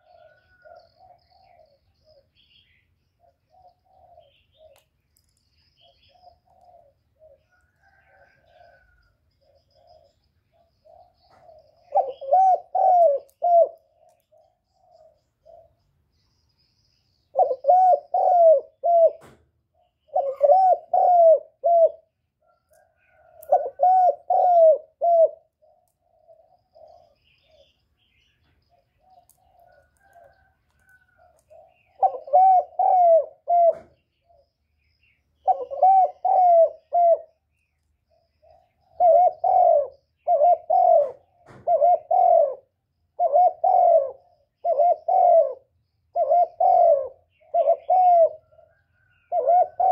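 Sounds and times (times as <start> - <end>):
dove cooing: 0.0 - 15.8, 17.3 - 27.8, 28.7 - 34.6, 35.4 - 37.4, 38.1 - 49.9.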